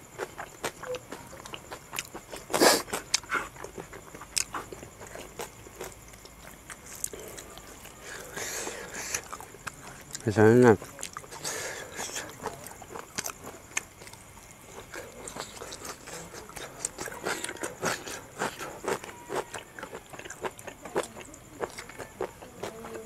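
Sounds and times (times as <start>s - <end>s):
person chewing and lip smacking: 0.2s - 23.0s.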